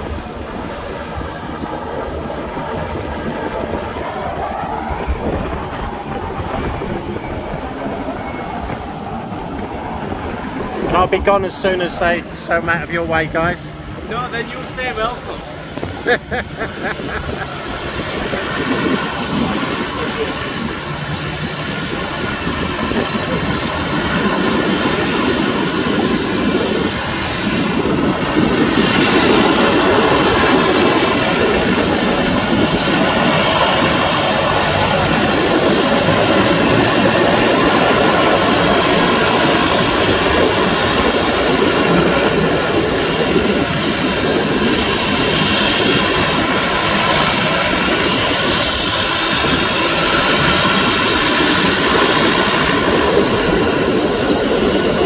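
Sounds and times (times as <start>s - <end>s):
high turbine whine: 0.0s - 55.0s
propeller plane engine drone: 0.0s - 55.0s.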